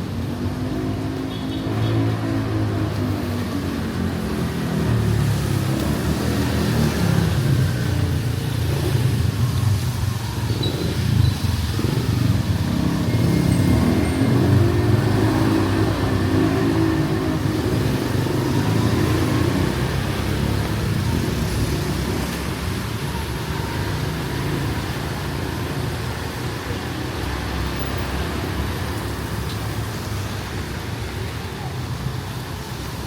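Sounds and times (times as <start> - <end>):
roadway noise: 0.0 - 33.0.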